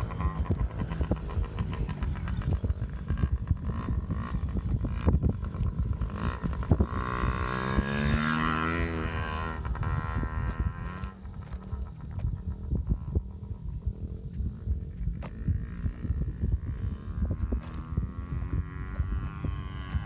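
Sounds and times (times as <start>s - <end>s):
distant dirt bike engine revving: 0.0s - 20.0s
wind on microphone: 0.0s - 20.0s.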